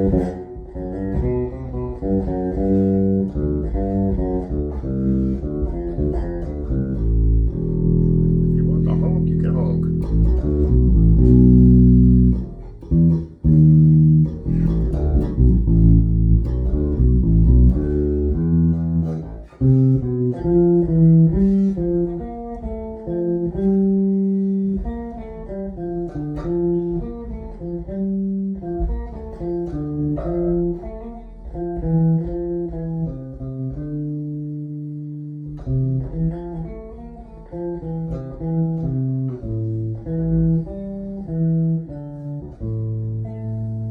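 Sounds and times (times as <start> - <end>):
bass guitar through amp: 0.0 - 43.9.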